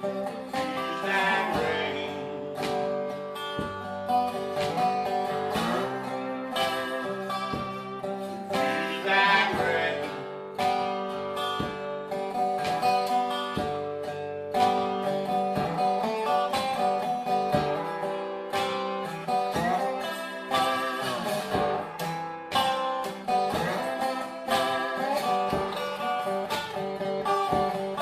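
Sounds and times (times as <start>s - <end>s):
acoustic guitar playing blues: 0.0s - 28.0s.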